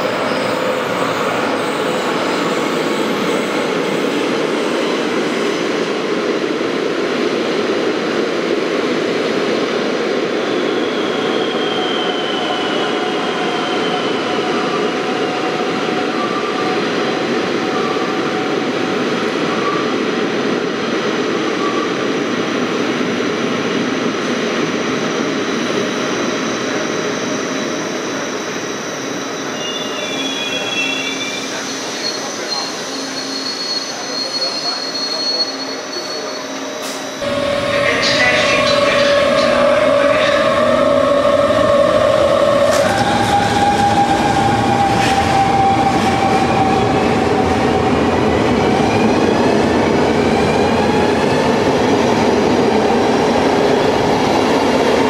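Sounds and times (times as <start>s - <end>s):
electric train rumbling into station: 0.0s - 55.0s.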